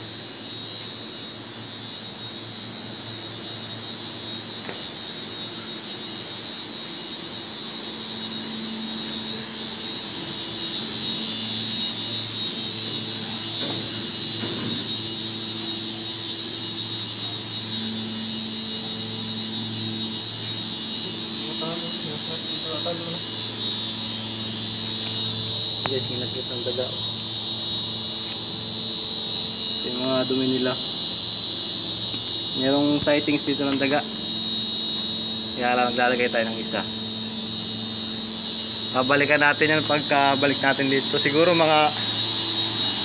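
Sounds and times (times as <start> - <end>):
machinery hum with high whine: 0.0 - 43.0.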